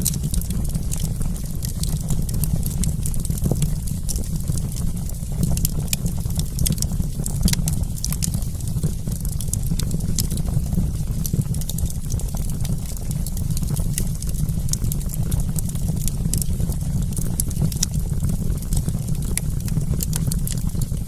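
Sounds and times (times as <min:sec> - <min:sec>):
campfire crackling: 0:00.0 - 0:21.0
low rumble of burning fire: 0:00.0 - 0:21.0.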